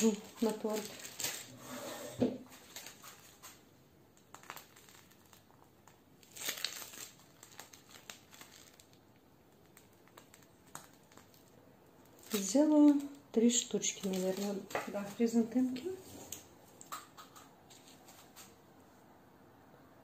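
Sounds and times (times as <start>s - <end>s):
piping bag rustling: 0.0s - 18.6s.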